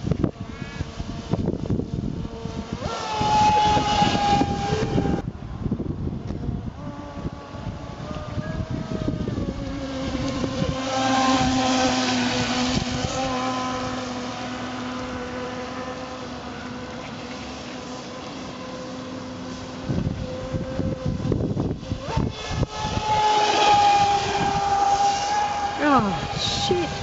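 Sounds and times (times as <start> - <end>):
electric motor whining: 0.0 - 27.0
wind rumble on microphone: 0.0 - 27.0.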